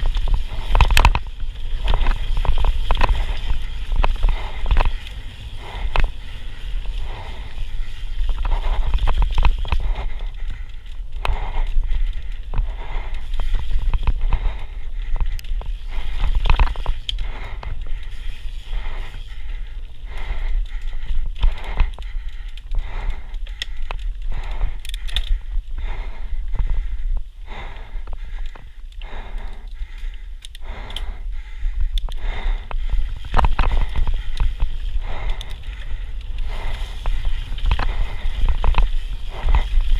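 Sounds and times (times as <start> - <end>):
bike tyres scraping over dirt: 0.0 - 39.9
wind rumble on microphone: 0.0 - 39.9.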